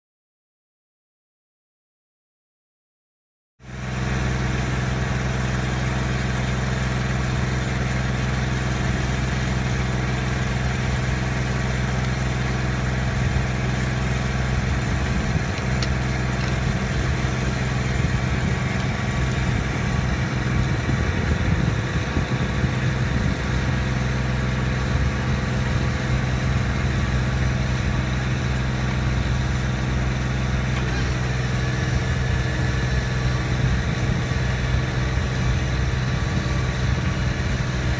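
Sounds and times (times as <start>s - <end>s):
pump engine running steadily: 3.6s - 37.9s.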